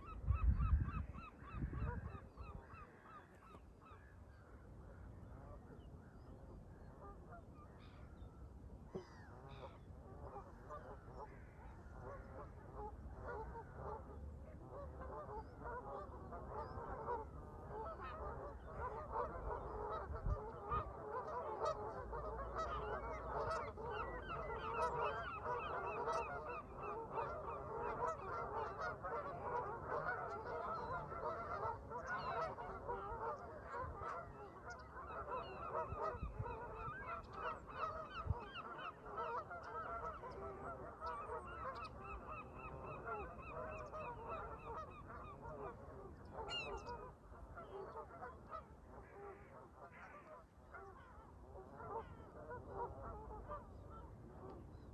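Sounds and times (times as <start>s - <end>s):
geese honking: 8.9s - 54.1s.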